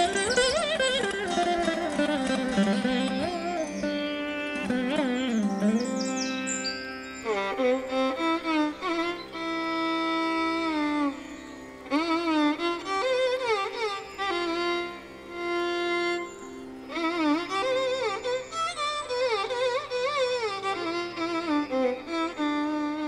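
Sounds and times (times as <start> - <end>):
classical-style instrumental melody: 0.0 - 23.0.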